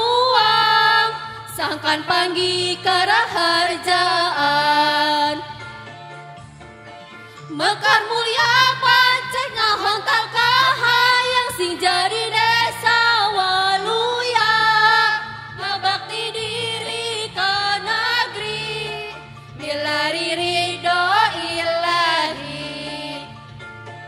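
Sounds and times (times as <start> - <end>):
women's choir singing: 0.0 - 5.4, 7.6 - 23.3
backing music: 0.0 - 24.0.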